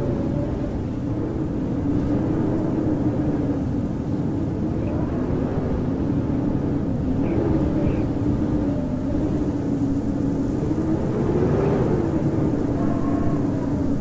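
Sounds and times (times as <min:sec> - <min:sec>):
howling wind: 0:00.0 - 0:14.0.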